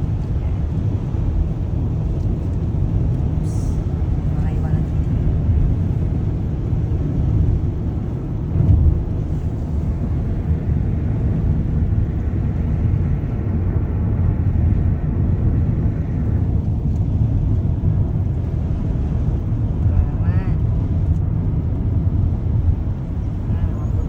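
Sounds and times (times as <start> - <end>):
car driving on snow: 0.0 - 24.0.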